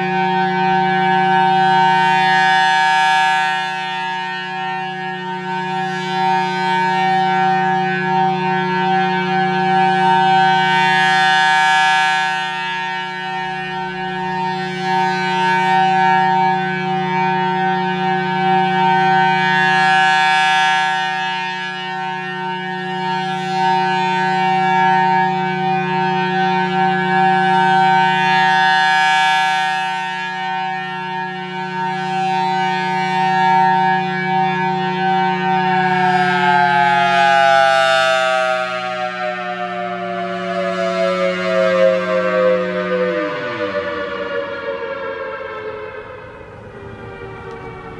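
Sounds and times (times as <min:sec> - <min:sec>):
rotating siren full-alert tone: 0:00.0 - 0:47.9.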